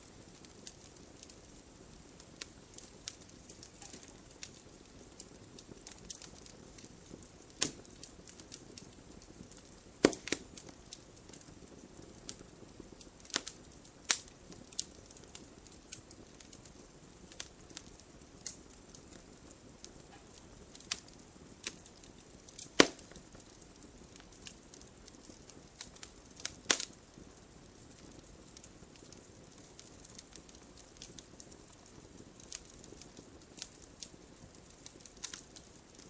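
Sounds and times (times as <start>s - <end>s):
fire hiss: 0.0s - 36.0s
wood fire crackling: 0.0s - 36.0s.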